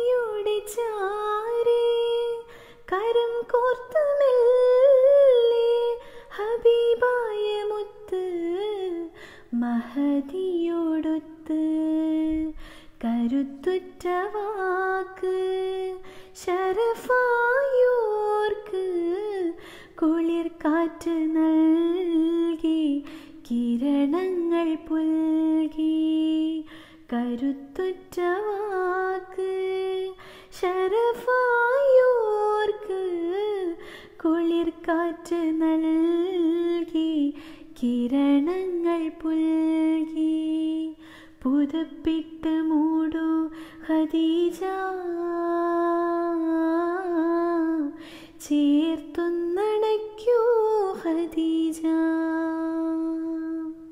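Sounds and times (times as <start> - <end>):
woman singing unaccompanied: 0.0 - 53.9.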